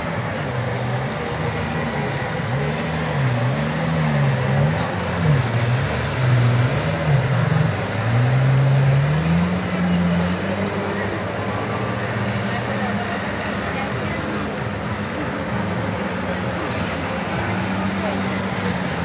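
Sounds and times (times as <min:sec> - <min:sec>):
jet ski engine revving: 0:00.0 - 0:19.0.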